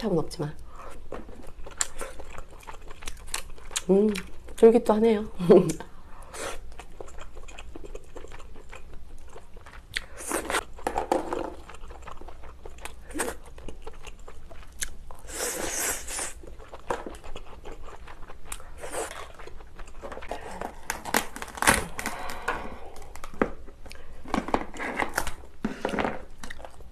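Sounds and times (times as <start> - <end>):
wet chewing: 0.7 - 4.7, 5.6 - 26.9.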